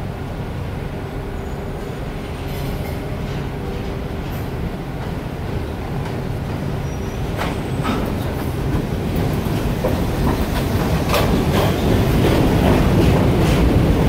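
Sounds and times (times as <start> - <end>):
subway wheels clacking over rail joints: 1.3 - 14.0.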